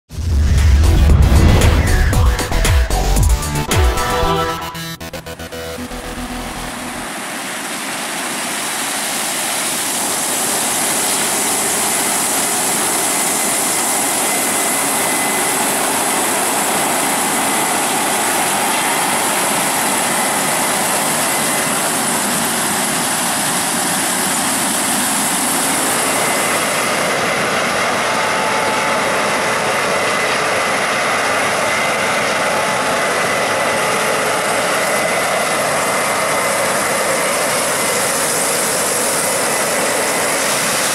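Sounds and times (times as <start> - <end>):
combine harvester running: 0.1 - 40.9.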